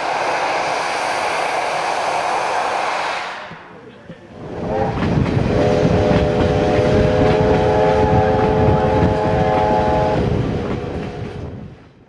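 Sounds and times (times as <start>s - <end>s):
steam whistle chord: 0.0s - 3.9s, 4.5s - 10.4s
passing train rumble: 0.0s - 12.0s.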